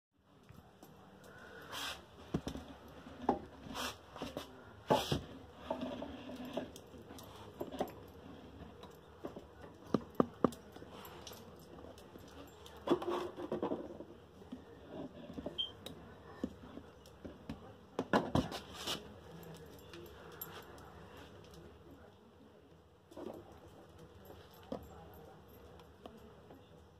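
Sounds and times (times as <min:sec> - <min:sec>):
handling clicks and rustles: 0:00.4 - 0:22.0, 0:22.7 - 0:26.9.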